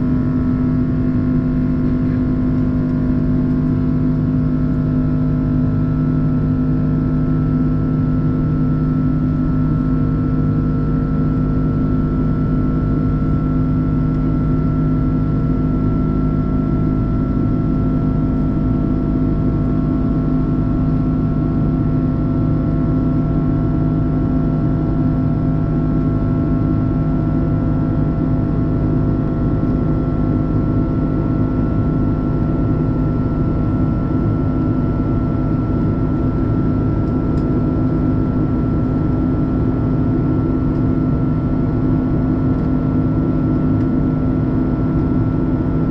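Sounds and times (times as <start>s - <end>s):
airliner cabin engine drone: 0.0s - 45.9s.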